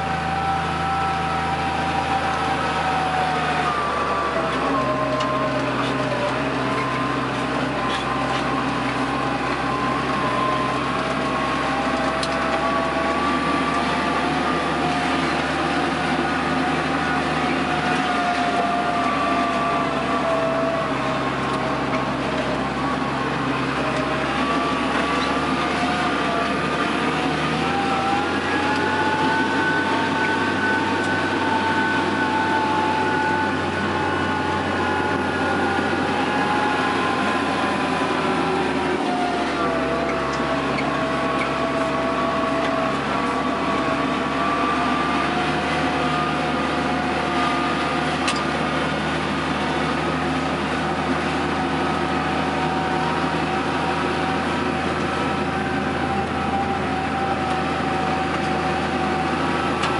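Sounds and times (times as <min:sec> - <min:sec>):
tractor engine running: 0:00.0 - 0:59.9
whine: 0:00.0 - 0:59.9.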